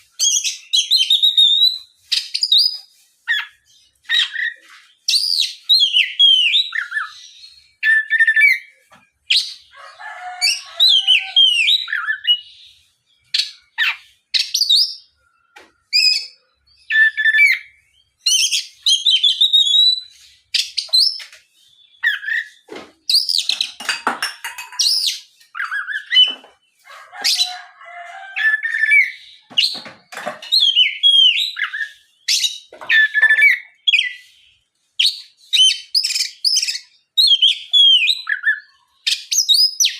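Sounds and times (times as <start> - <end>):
magpie-robin singing: 0.0 - 23.9, 24.5 - 27.7, 28.3 - 39.9.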